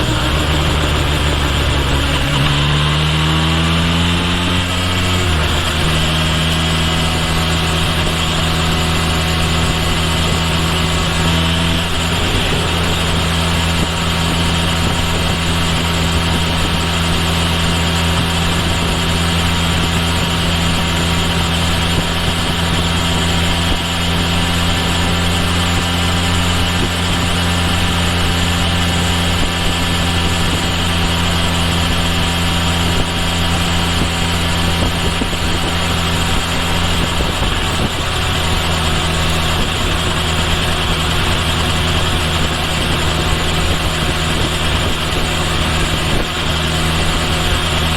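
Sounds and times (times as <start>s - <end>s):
motorcycle engine running steadily: 0.0s - 47.9s.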